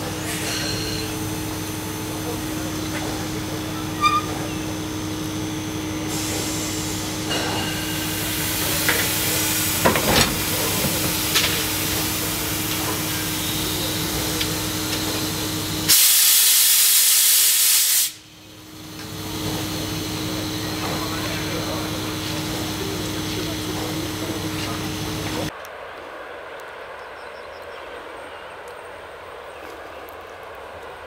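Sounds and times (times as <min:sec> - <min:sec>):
loud rush of released steam: 0:00.0 - 0:25.5
steam locomotive hum and hiss: 0:00.0 - 0:31.0.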